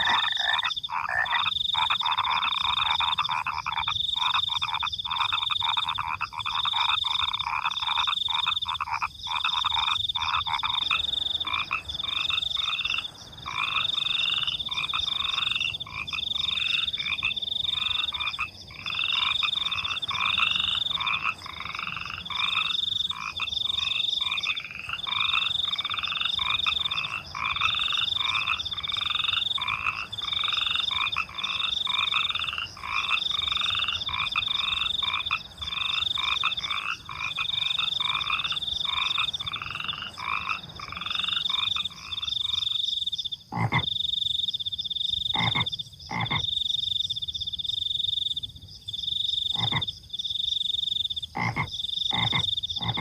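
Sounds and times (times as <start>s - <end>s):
rapid pulsing frog call: 0.0s - 46.8s, 49.3s - 53.0s
crickets chirping: 0.0s - 53.0s
frogs croaking: 0.0s - 53.0s.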